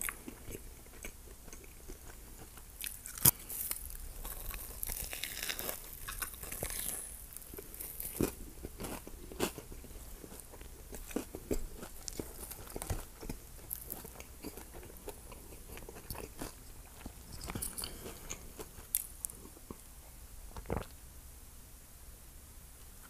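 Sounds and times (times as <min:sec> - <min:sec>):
crunchy chewing: 0:00.0 - 0:19.9.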